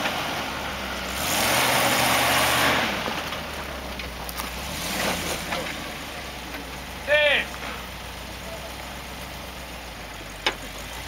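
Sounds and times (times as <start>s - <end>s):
truck engine at low speed: 0.0s - 11.0s.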